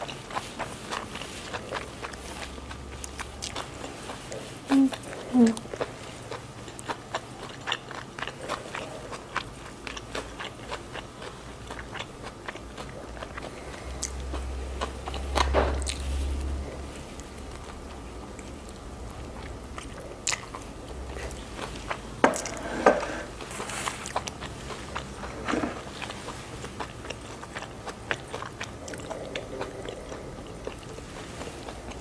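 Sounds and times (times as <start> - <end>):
chewing and biting food: 0.0 - 32.0.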